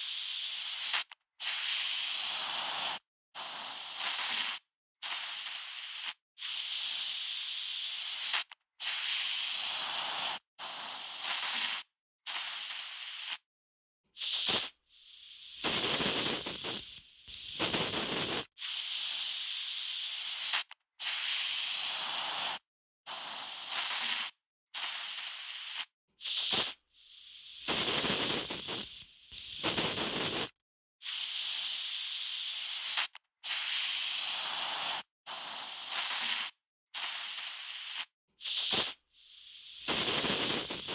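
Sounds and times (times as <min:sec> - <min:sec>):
aerosol spray can hissing: 0:00.1 - 0:13.4, 0:14.2 - 0:40.9.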